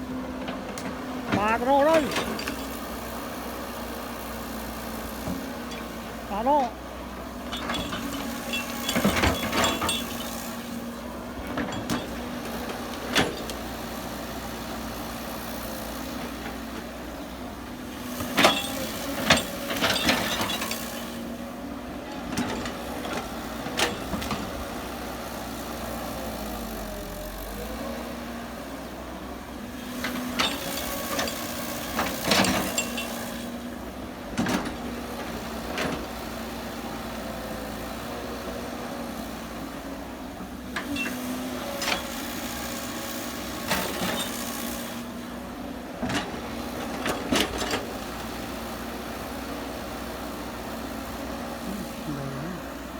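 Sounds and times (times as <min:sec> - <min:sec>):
diesel engine of heavy machinery: 0:00.0 - 0:52.9.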